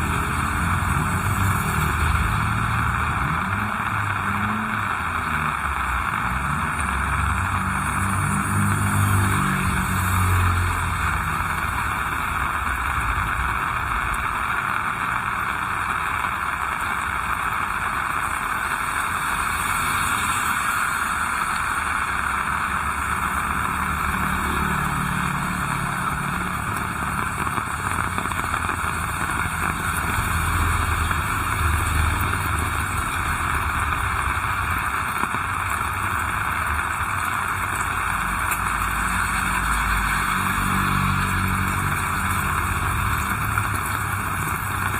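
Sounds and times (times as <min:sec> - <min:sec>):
heavy rain: 0:00.0 - 0:44.9
passing motor vehicles rumbling: 0:00.0 - 0:44.9.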